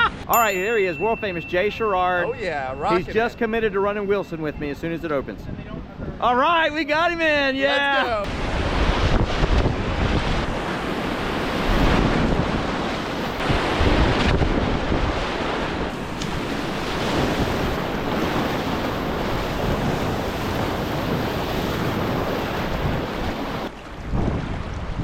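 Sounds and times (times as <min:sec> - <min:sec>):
wind buffeting microphone: 0:01.3 - 0:06.4, 0:08.1 - 0:25.0.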